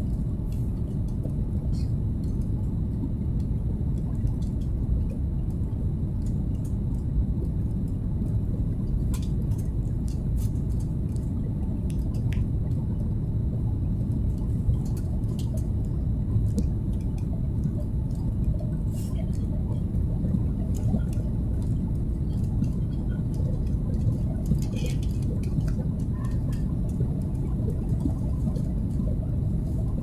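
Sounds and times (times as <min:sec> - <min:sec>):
airplane cabin rumble: 0:00.0 - 0:30.0.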